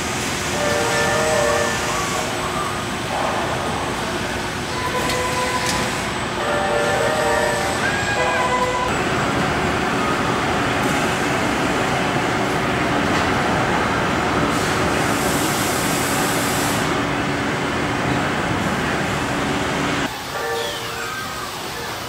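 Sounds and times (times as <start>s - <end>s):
machinery rumble and hiss: 0.0s - 22.0s.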